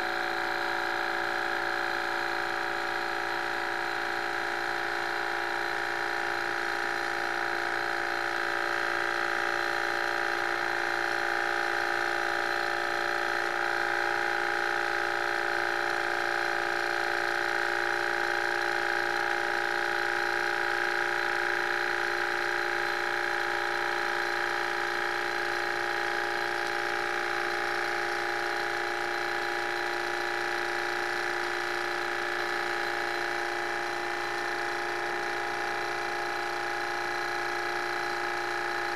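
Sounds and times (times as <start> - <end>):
model engine whirring buzz: 0.0 - 38.9.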